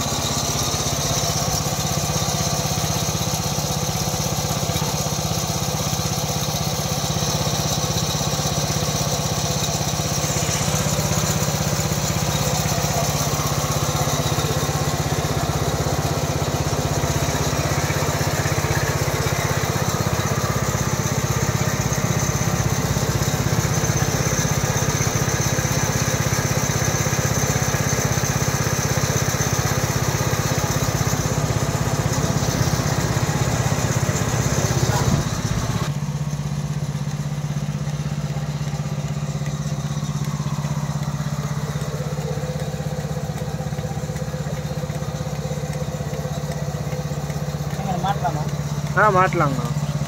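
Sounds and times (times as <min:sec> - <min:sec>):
small petrol engine running: 0:00.0 - 0:50.0.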